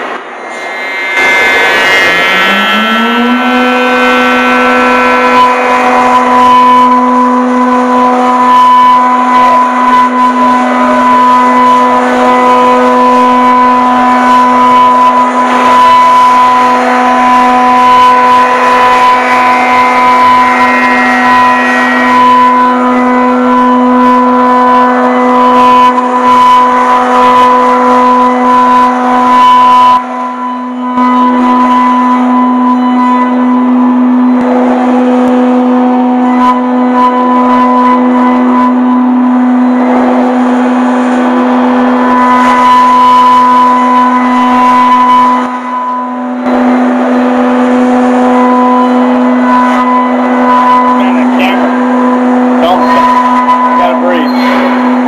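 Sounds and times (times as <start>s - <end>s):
milling spindle whine: 0.0s - 55.0s.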